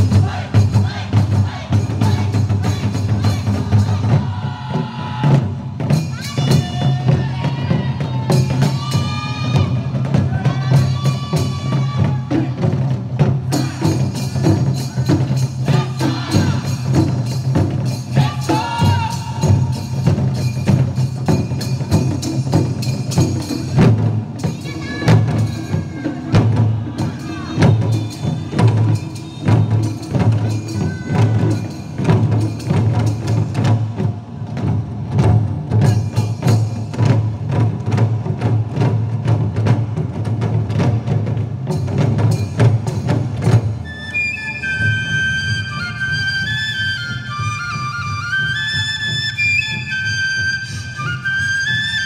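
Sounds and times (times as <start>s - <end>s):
drum ensemble playing: 0.0s - 51.3s.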